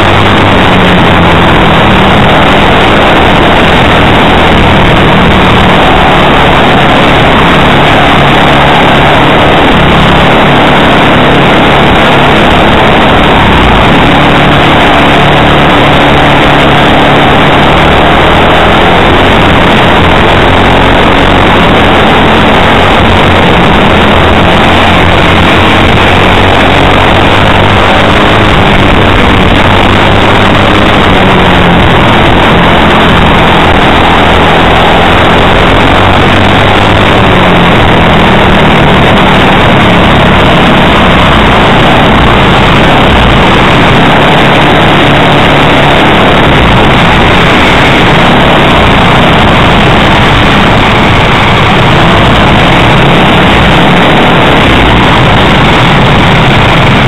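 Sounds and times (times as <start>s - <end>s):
distorted kart engine revving: 0.0s - 57.0s.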